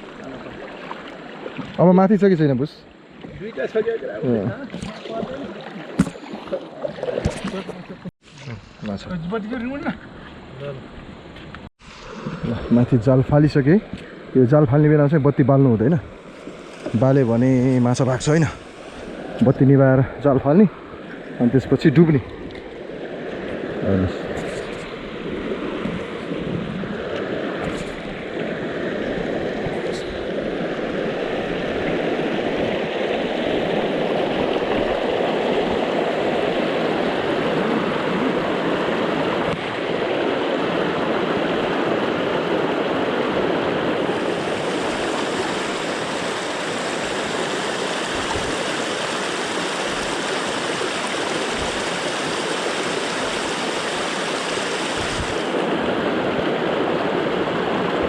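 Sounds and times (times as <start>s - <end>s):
river water rushing: 0.0s - 8.1s, 16.2s - 58.0s.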